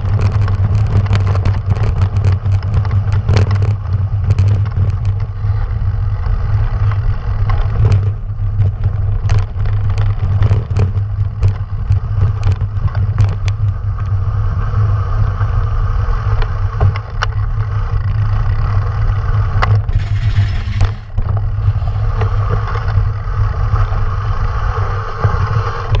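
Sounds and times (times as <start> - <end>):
stones and bike rattling: 0.0 - 26.0
tyres rumbling on gravel: 0.0 - 26.0.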